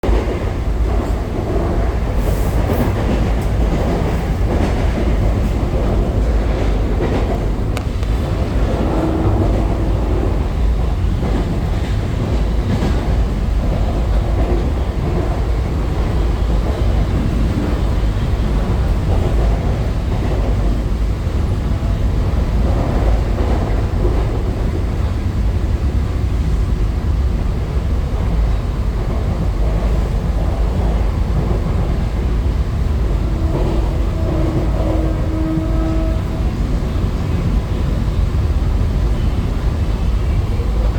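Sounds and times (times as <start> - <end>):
train running with low rumble: 0.0 - 40.9.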